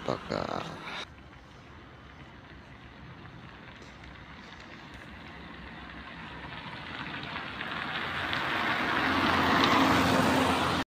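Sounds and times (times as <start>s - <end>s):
car approaching: 0.0s - 10.9s.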